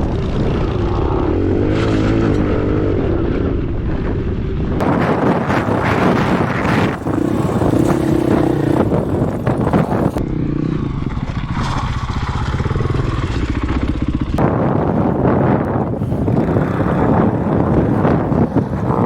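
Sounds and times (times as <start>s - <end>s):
dirt bike engine running: 0.0s - 19.0s
wind buffeting microphone: 0.0s - 19.0s.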